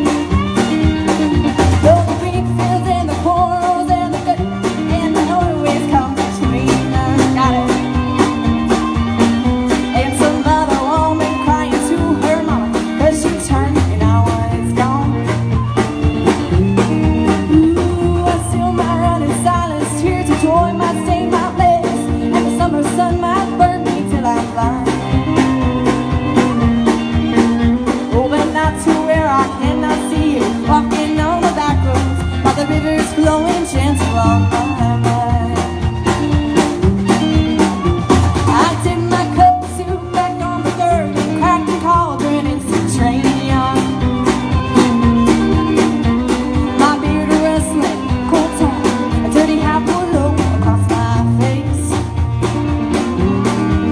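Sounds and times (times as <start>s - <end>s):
woman singing: 0.0s - 52.3s
bass guitar: 0.0s - 53.9s
electric guitar: 0.0s - 53.9s
steady drum beat: 0.0s - 53.9s.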